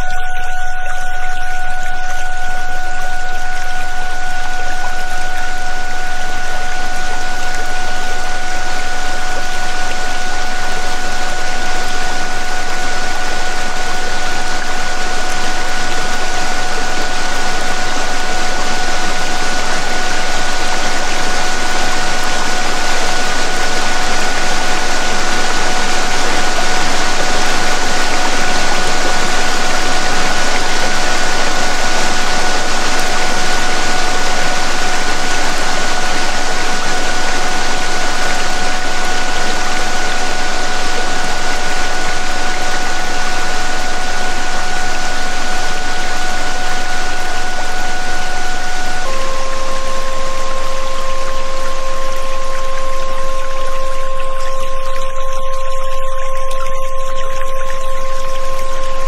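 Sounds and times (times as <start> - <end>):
steady pure tones: 0.0 - 59.0.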